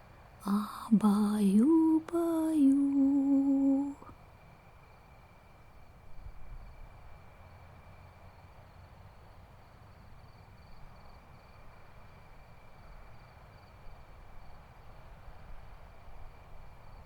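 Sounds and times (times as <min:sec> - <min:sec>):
faint crickets chirping: 0:00.4 - 0:17.0.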